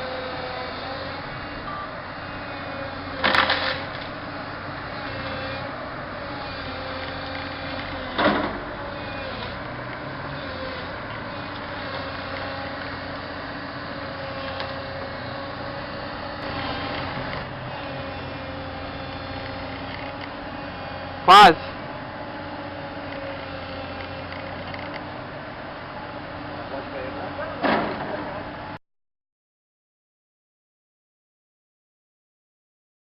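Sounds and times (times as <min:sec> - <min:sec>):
heavy machine engine running: 0:00.0 - 0:28.8.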